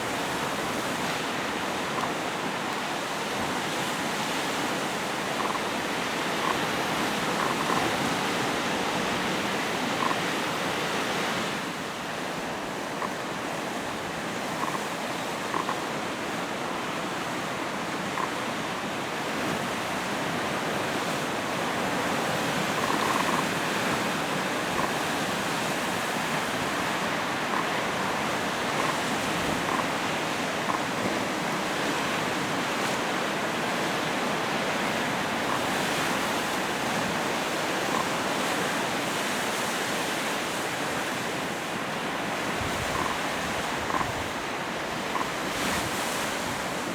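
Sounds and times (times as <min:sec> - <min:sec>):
waves washing against shore: 0:00.0 - 0:46.9.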